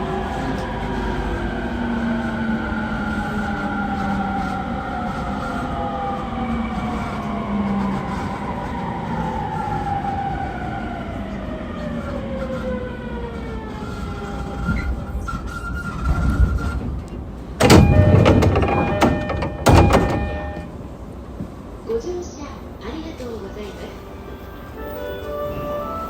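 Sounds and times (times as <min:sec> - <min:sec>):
train traction motors whining: 0:00.0 - 0:21.2
train running noise: 0:00.0 - 0:26.0.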